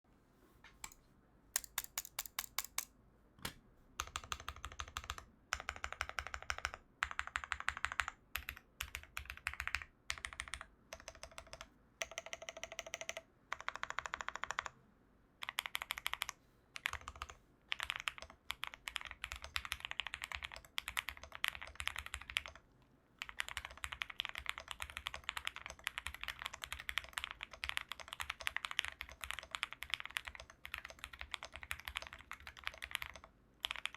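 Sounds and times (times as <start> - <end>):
mechanical keyboard typing: 1.6 - 2.9, 4.0 - 14.7, 15.4 - 22.6, 23.2 - 33.9.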